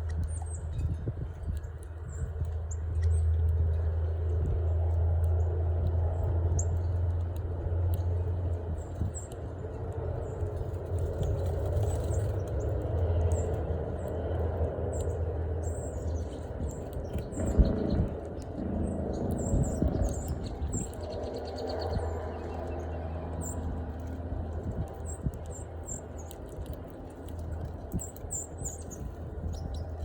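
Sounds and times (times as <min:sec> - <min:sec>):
low rumble: 0:00.0 - 0:30.0
small birds chirping: 0:00.0 - 0:30.0.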